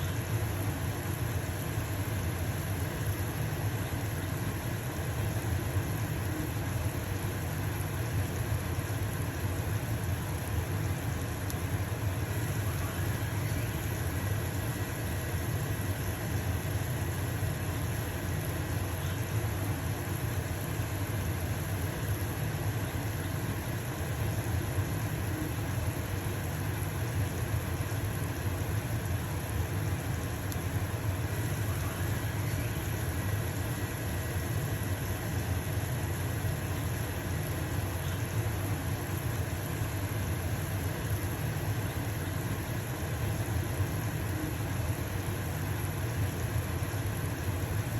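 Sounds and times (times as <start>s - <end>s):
range hood fan humming: 0.0s - 47.9s.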